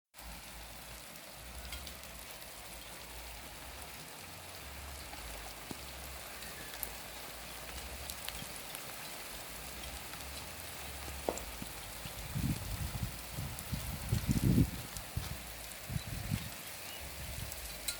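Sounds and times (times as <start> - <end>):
steady rain falling: 0.1 - 17.9.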